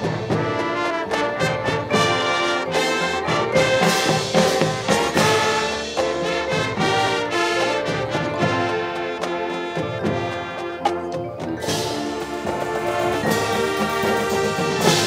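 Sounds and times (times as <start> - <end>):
brass chords and accented notes: 0.0 - 15.0
marching band playing: 0.0 - 15.0.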